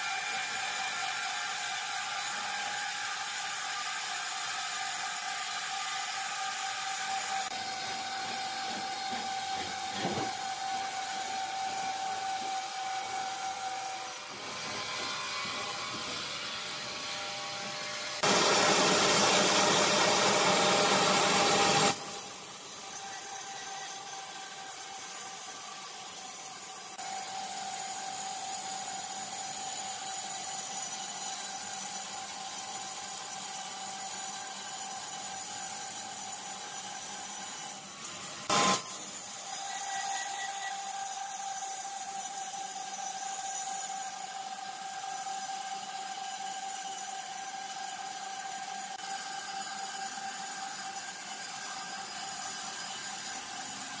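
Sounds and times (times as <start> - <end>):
band saw cutting timber: 0.0 - 54.0.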